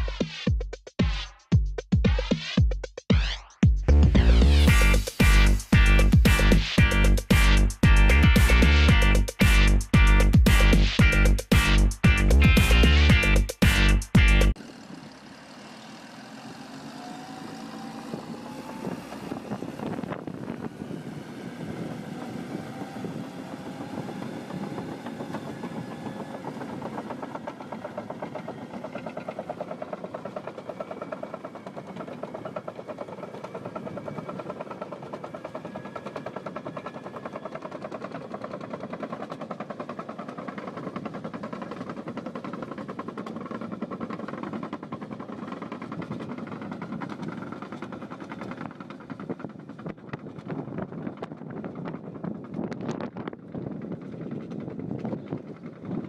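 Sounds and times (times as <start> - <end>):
machine engine pulsing: 3.2 - 56.0.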